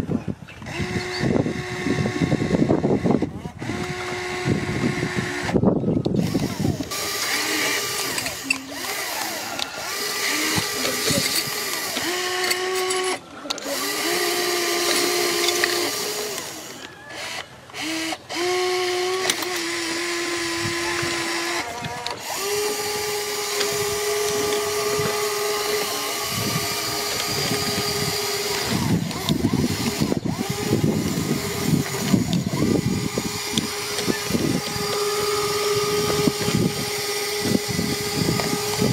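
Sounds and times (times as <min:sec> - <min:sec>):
excavator motors whining: 0:00.0 - 0:38.9.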